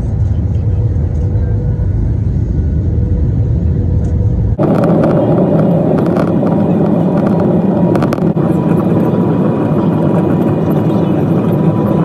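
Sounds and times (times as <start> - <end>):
airliner engine and airflow rumble: 0.0 - 12.0.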